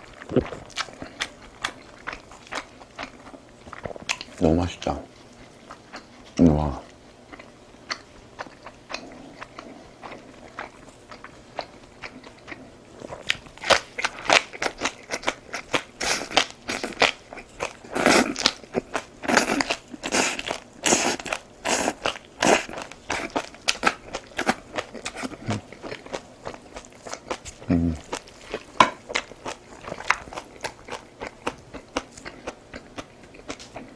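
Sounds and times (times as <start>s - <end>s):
crunchy food chewing: 0.0s - 33.9s.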